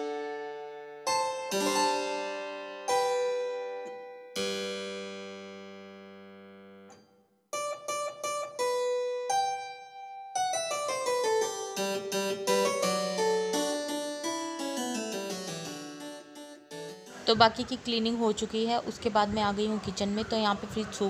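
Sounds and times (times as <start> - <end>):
keyboard music: 0.0 - 18.6.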